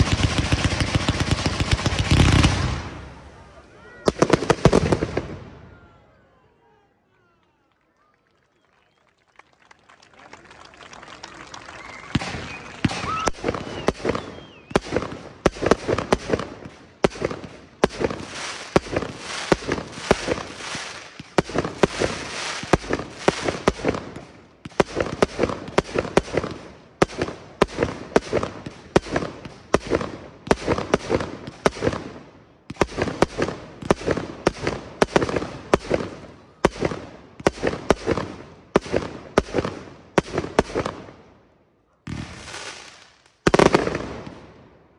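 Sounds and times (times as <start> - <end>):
fireworks crackle: 0.0 - 5.4, 10.6 - 32.1, 32.7 - 41.2, 42.1 - 44.5
fireworks launching and bursting: 0.0 - 5.6, 11.8 - 41.4, 42.0 - 44.8.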